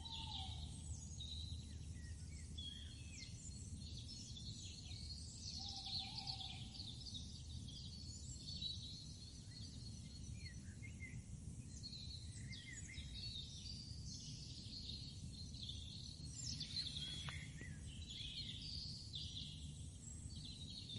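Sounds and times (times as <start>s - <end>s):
birds chirping and trilling: 0.0s - 20.9s.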